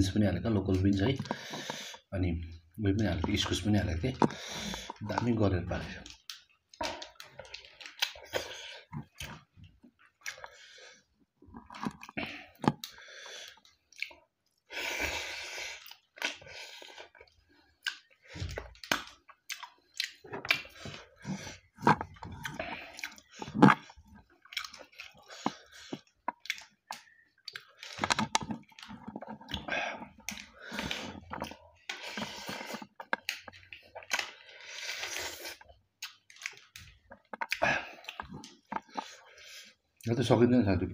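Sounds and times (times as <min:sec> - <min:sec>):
person chewing: 0:01.0 - 0:02.1, 0:03.0 - 0:40.1.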